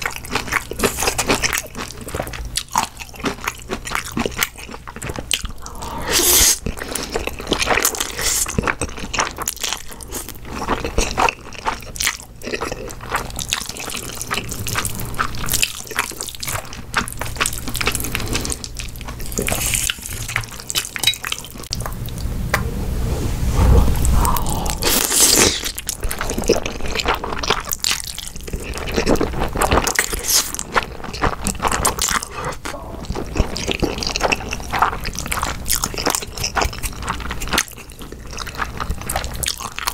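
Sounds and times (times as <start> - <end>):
noodles slurped and chewed: 0.0 - 21.8, 24.0 - 39.9.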